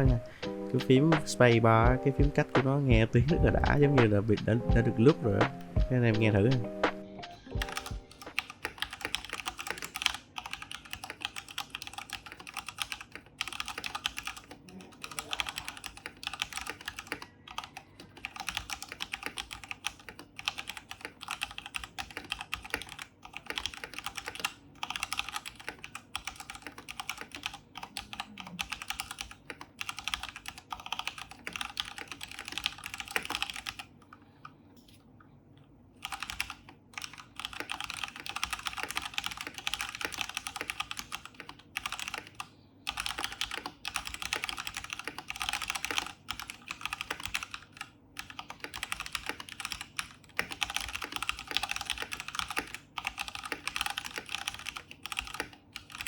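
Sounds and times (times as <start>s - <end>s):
mechanical keyboard typing: 7.6s - 33.9s, 36.0s - 56.0s.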